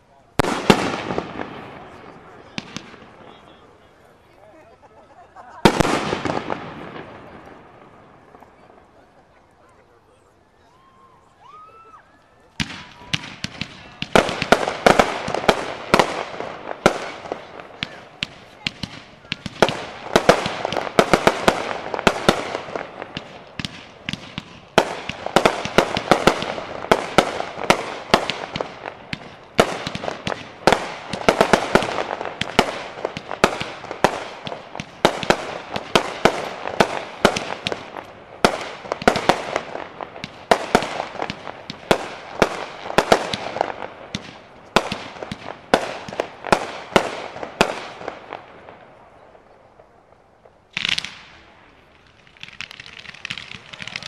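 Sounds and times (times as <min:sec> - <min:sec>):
fireworks bursting with sharp bangs: 0:00.0 - 0:10.2, 0:10.8 - 0:54.0.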